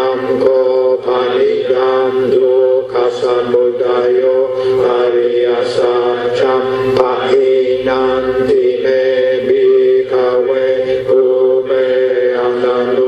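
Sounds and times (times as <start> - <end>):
voices chanting: 0.0 - 13.0.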